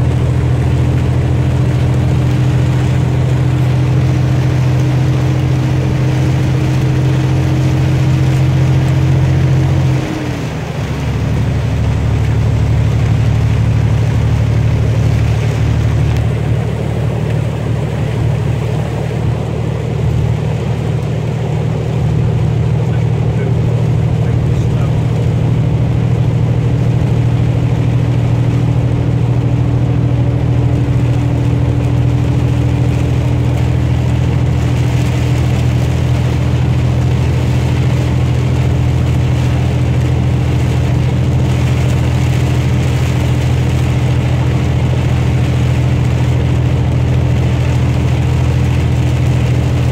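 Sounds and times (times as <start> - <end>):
truck engine drone: 0.0 - 49.9
tyres on wet road: 0.0 - 49.9.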